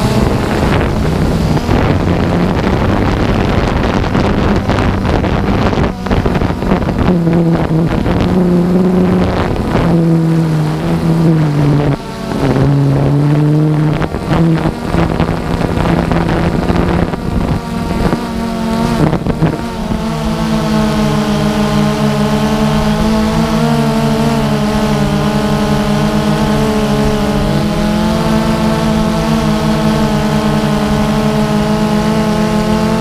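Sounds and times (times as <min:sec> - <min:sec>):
drone propellers droning: 0:00.0 - 0:33.0
wind buffeting microphone: 0:00.0 - 0:33.0.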